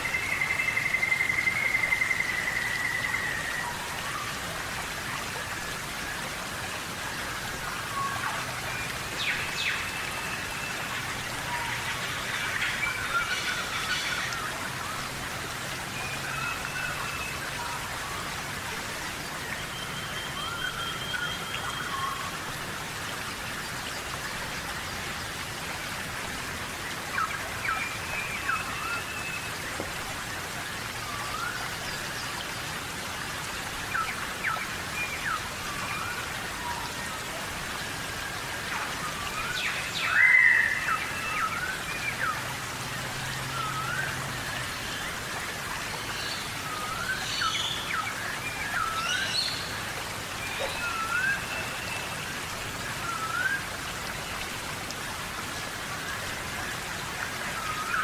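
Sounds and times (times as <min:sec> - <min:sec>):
rain hissing on foliage: 0:00.0 - 0:58.0.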